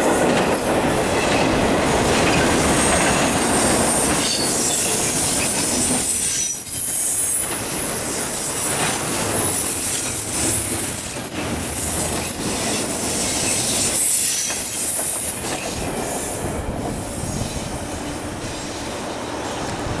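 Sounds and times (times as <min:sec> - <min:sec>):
clickety-clack over rail joints: 0:00.0 - 0:20.0
freight train wheel noise: 0:00.0 - 0:20.0.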